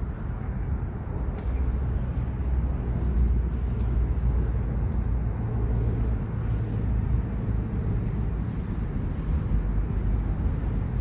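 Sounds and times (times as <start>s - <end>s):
faint steady hum: 0.0s - 11.0s
low outdoor rumble: 0.0s - 11.0s.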